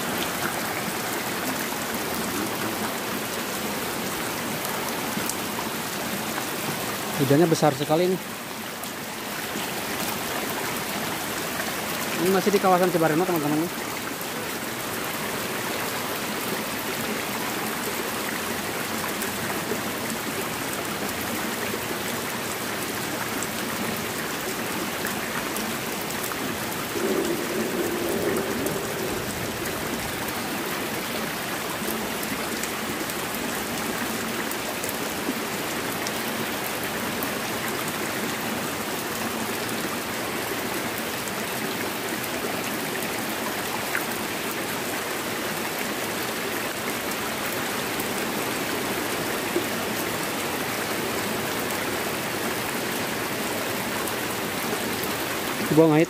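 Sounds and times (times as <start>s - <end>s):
heavy rain on flowing water: 0.0s - 56.0s.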